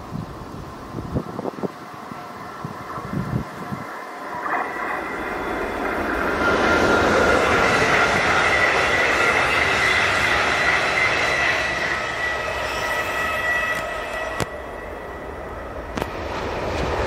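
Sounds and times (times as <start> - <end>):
train rolling rumble: 0.0 - 17.0
train wheels squealing: 2.3 - 17.0.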